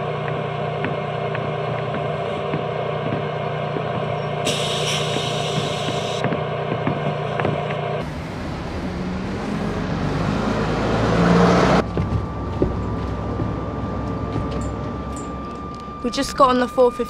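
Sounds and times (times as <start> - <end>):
road traffic noise: 0.0 - 16.5.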